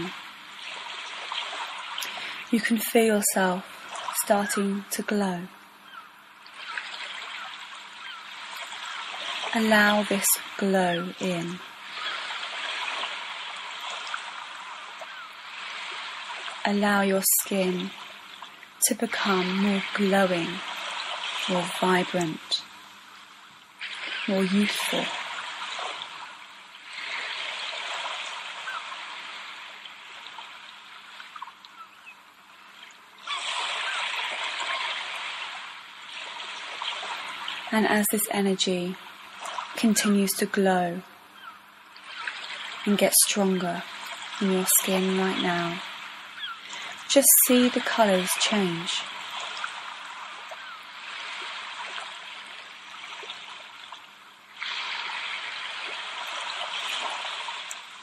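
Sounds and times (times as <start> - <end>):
rushing trickling water: 0.0 - 4.4, 5.6 - 37.8, 39.0 - 39.8, 41.2 - 58.0
ocean waves on shore: 0.0 - 58.0.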